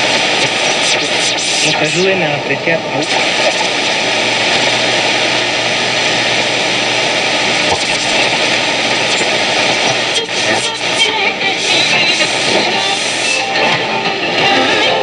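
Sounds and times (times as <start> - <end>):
radio crackle: 0.0 - 15.0
radio static hiss: 0.0 - 15.0.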